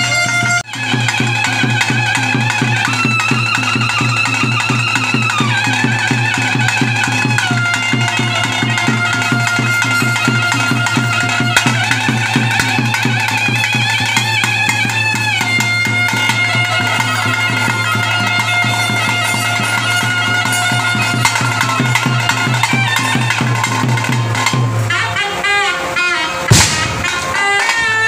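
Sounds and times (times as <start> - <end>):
reed pipe melody: 0.0 - 28.0
regular drumbeat: 0.0 - 28.0.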